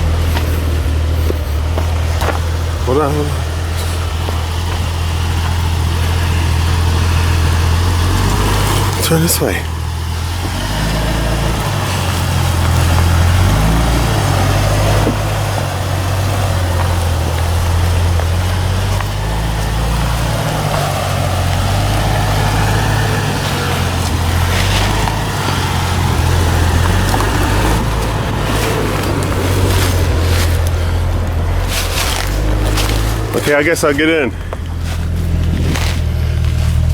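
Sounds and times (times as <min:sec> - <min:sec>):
small engine running at low revs: 0:00.0 - 0:36.9.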